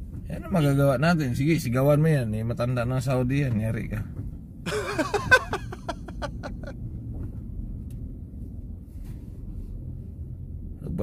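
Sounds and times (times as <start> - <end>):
car cabin rumble while driving: 0.0 - 11.0.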